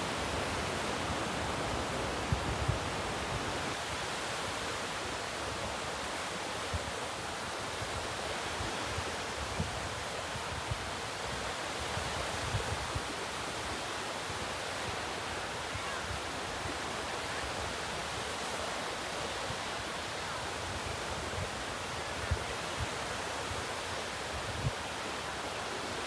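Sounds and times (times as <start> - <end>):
waves washing onto beach: 0.0 - 26.0.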